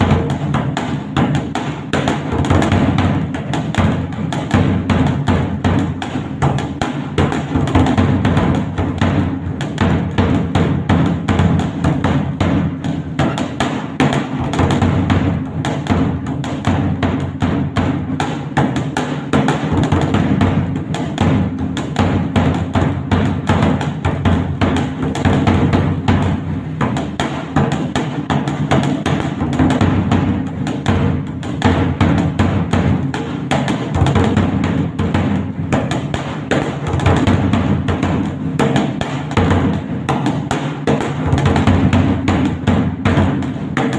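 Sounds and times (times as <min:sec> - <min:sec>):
barrel drum beaten with sticks: 0:00.0 - 0:43.9.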